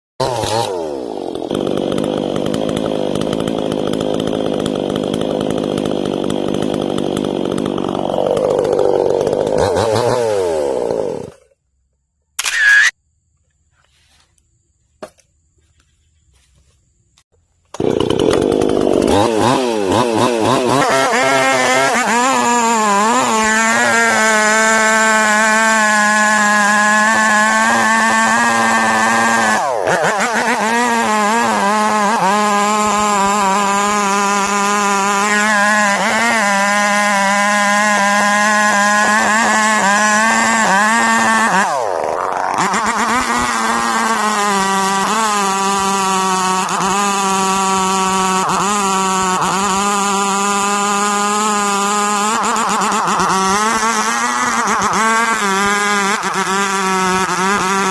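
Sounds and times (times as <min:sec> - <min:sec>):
chainsaw running at high revs: 0:00.2 - 0:11.6, 0:17.7 - 0:57.9.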